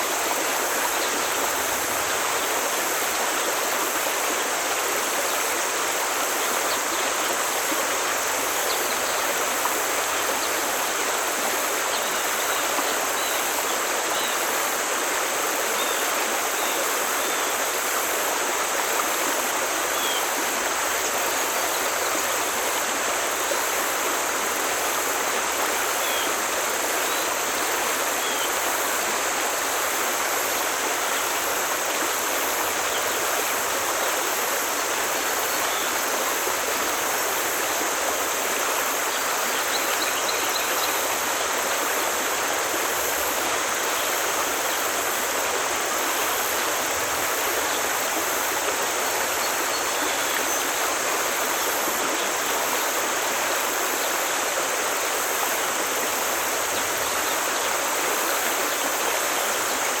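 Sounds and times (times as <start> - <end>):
stream babbling over rocks: 0.0 - 60.0.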